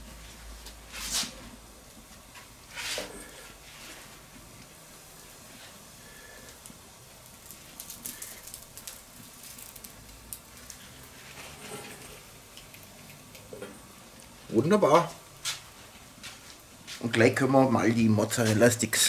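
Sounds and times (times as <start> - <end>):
breaded pieces sizzling on hot plate: 0.0 - 17.0.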